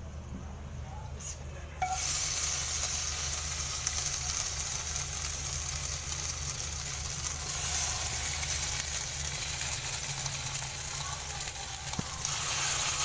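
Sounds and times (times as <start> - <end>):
low steady hum: 0.0 - 13.0
chicken sizzling in a pan: 1.8 - 13.0.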